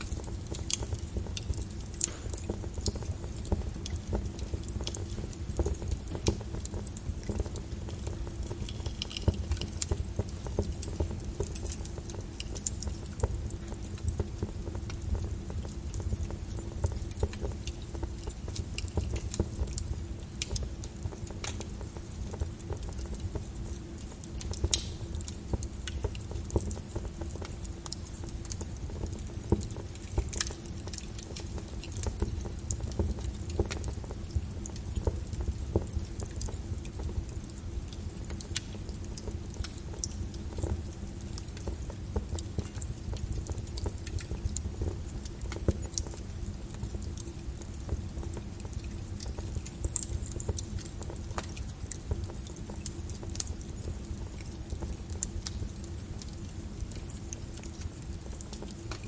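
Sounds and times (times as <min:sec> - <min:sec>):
fireplace wood fire crackling: 0:00.0 - 0:59.0.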